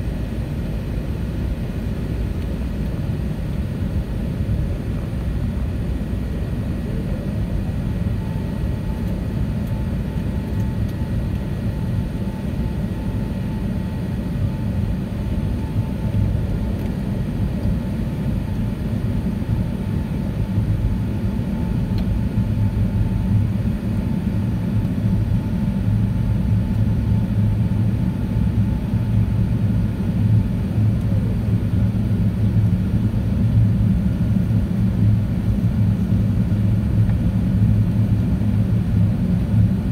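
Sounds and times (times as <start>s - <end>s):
airplane cabin engine rumble: 0.0s - 39.9s
faint steady whine: 0.0s - 39.9s.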